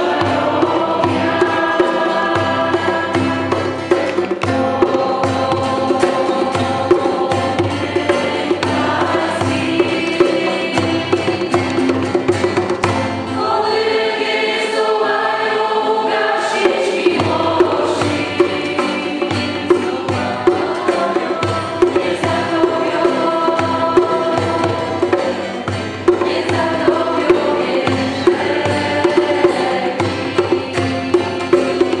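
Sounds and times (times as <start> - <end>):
sharp percussive beat: 0.0 - 14.4, 16.1 - 32.0
acoustic guitar: 0.0 - 32.0
congregation singing: 0.0 - 32.0.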